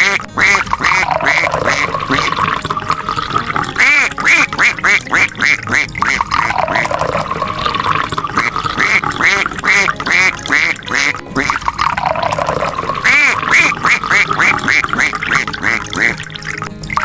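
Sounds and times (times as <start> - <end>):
background music with chirpy notes: 0.0 - 17.0.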